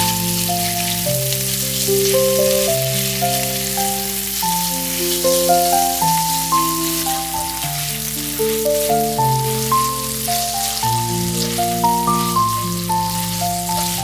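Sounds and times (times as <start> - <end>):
food sizzling in oil: 0.0 - 14.0
slow melodic background music: 0.0 - 14.0.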